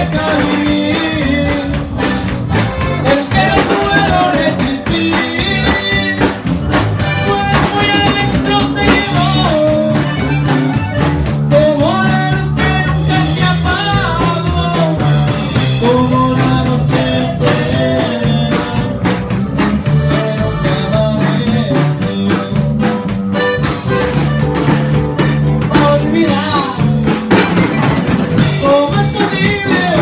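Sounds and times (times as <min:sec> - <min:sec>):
drum kit: 0:00.0 - 0:30.0
electric guitars: 0:00.0 - 0:30.0.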